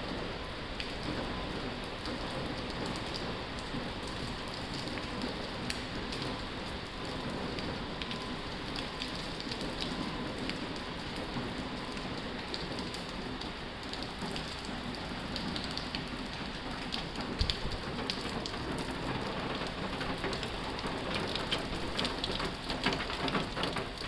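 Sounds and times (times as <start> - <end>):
heavy rain on a tin roof: 0.0 - 24.0.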